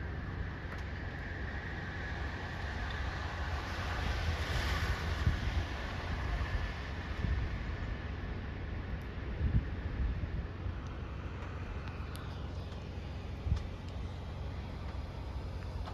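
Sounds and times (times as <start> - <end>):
wind rumble on microphone: 0.0 - 15.9
wind blowing: 2.2 - 15.6.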